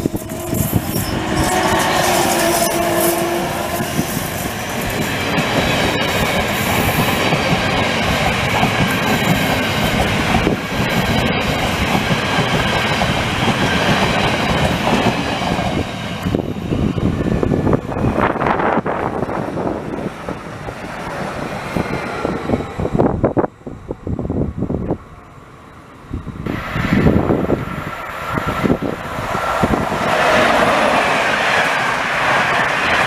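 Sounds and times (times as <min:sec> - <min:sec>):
electric locomotive hum: 0:00.0 - 0:33.0
train wheels running on rails: 0:00.0 - 0:33.0.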